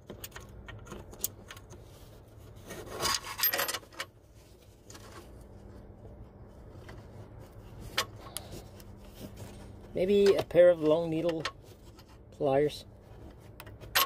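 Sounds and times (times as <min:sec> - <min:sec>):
faint handling noises: 0:00.0 - 0:14.0.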